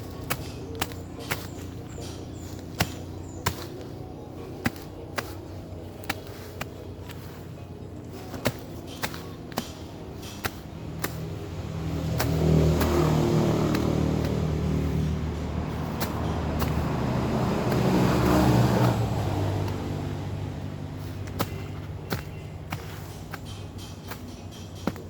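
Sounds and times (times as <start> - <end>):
vehicle engine running and revving: 0.0 - 25.0.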